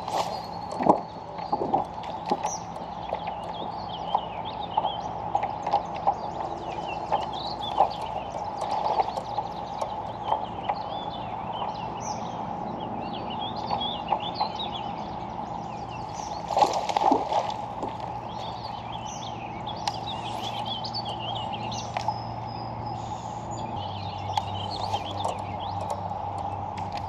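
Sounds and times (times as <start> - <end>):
birds singing and chirping: 0.0 - 27.0
steady low hum: 0.0 - 27.0.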